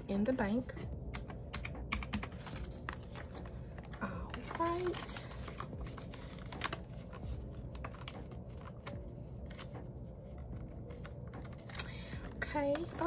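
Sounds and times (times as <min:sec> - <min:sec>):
paper bills rustling and clicking: 0:02.0 - 0:13.0.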